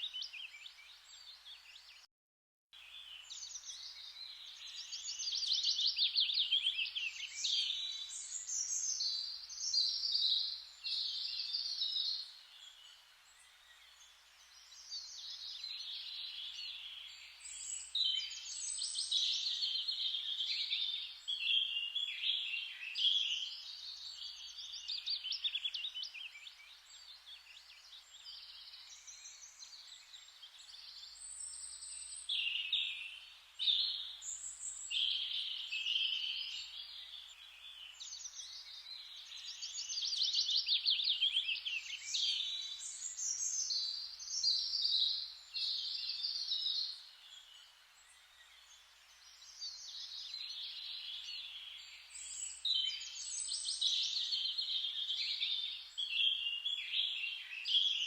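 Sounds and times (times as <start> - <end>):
songbirds chirping and trilling: 0.0 - 2.1, 2.8 - 58.0
forest rustling hiss: 2.9 - 58.0.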